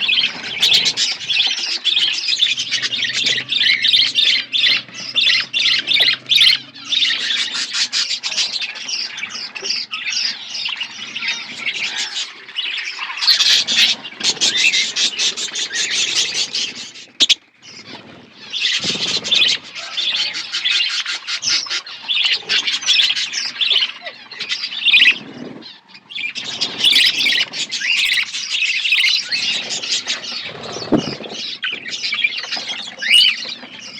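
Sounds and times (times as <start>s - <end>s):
budgerigars chattering and chirping: 0.0s - 33.9s.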